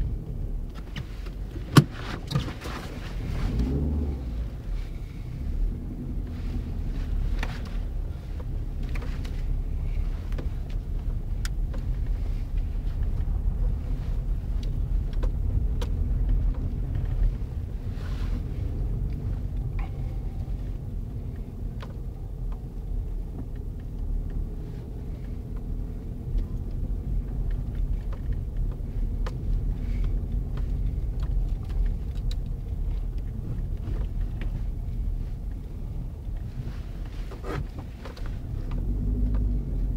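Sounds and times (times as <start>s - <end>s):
car rumbling on snow: 0.0s - 39.9s.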